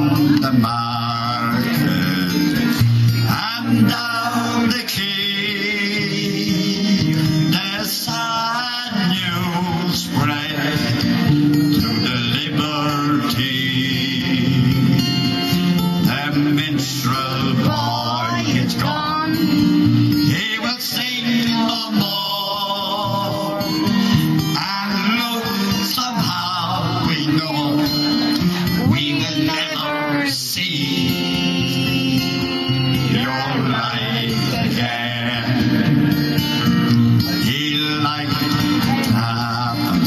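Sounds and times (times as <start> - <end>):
man singing ballad: 0.0 - 36.6, 37.2 - 40.0
guitar accompaniment: 0.0 - 40.0.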